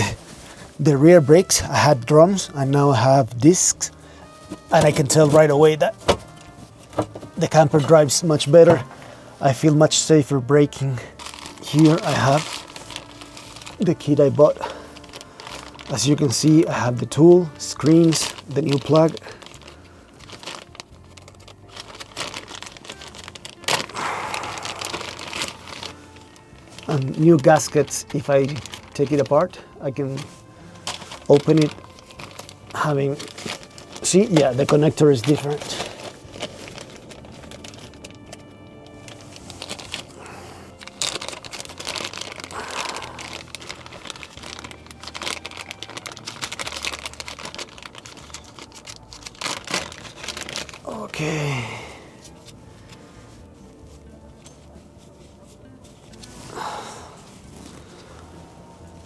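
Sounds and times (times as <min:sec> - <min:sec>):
plastic packaging crinkling: 0:00.0 - 0:59.0.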